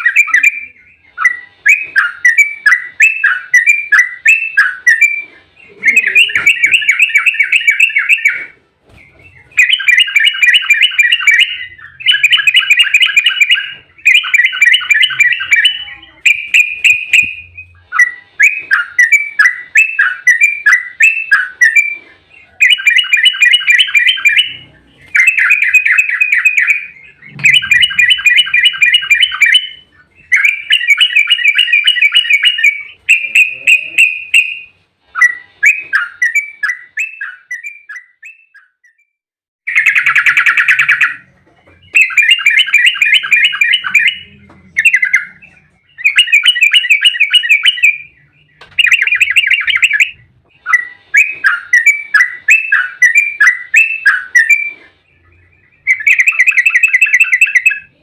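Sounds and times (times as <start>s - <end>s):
bird singing in chattering bursts: 0.0s - 39.0s, 39.7s - 58.0s.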